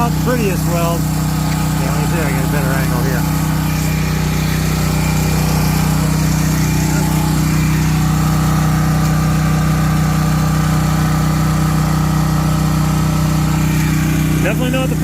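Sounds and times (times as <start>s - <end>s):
portable generator engine running: 0.0s - 15.0s.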